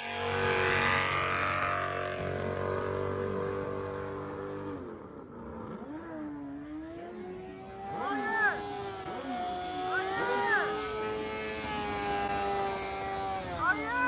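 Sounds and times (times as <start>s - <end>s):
car engine droning: 0.0s - 14.0s
engine revving: 0.0s - 14.0s.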